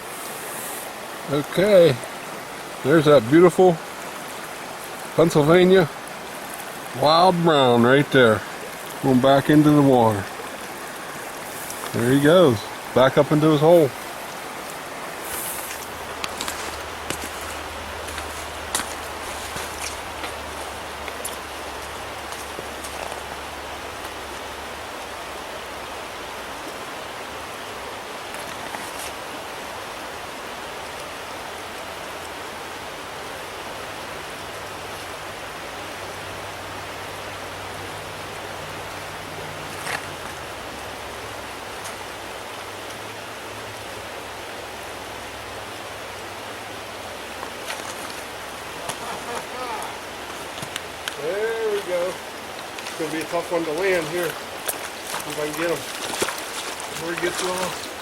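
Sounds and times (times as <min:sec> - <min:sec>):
stream water running over rocks: 0:00.0 - 0:58.0.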